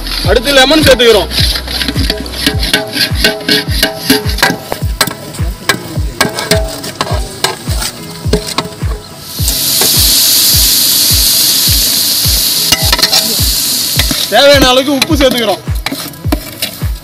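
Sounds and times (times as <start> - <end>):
food sizzling in pot: 0.0 - 17.0
music with bass-drum beat: 0.0 - 17.0.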